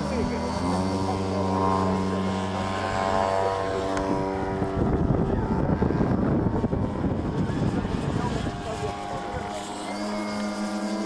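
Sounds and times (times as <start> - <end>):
model airplane engine droning: 0.0 - 11.0
wind buffeting microphone: 0.0 - 11.0.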